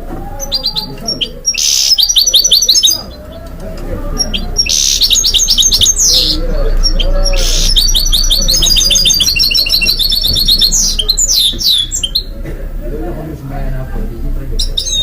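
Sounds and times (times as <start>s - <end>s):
finch singing: 0.4s - 12.4s, 14.6s - 15.0s.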